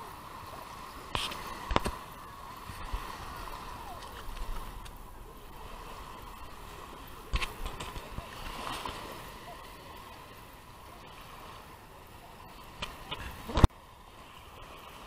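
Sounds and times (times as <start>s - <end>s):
small waves lapping on sand: 0.0s - 15.0s.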